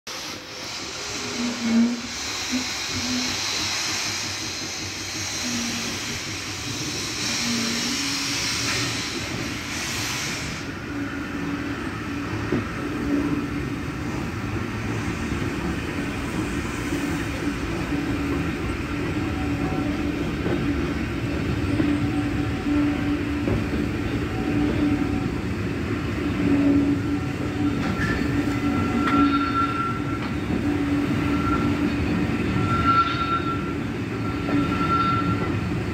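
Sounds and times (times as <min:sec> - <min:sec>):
steam hissing: 0:00.1 - 0:35.9
train carriages rumbling on rails: 0:00.1 - 0:35.9.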